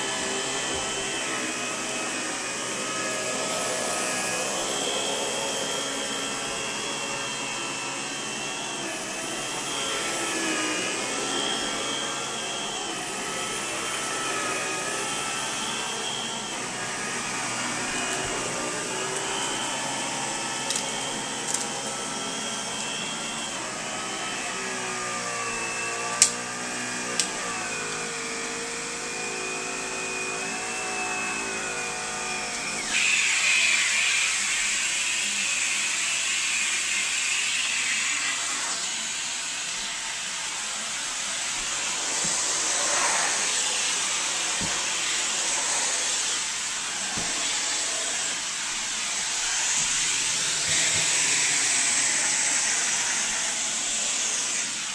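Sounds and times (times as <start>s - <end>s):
vacuum motor whine: 0.0s - 54.9s.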